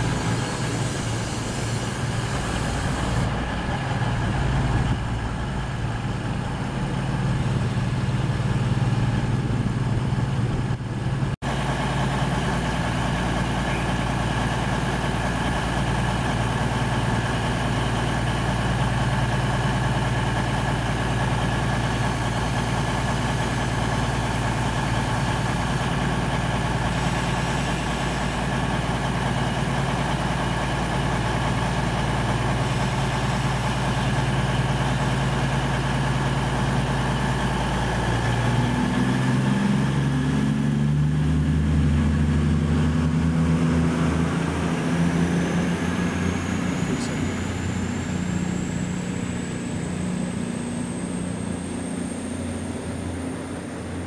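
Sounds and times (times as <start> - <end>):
train diesel engines running: 0.0 - 54.0.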